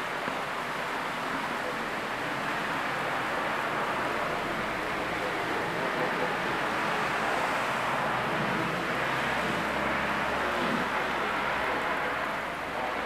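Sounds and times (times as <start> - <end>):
car tyres swishing through water: 0.0 - 13.0.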